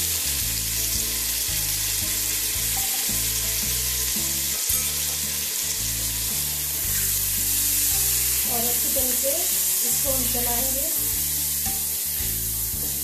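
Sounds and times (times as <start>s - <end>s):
background music bass line: 0.0s - 13.0s
rice sizzling in oil: 0.0s - 13.0s.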